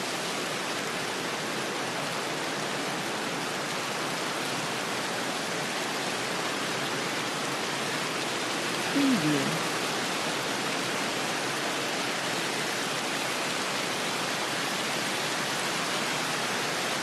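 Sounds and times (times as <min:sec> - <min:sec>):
rain: 0:00.0 - 0:17.0
stream running: 0:00.0 - 0:17.0
wind: 0:00.0 - 0:17.0.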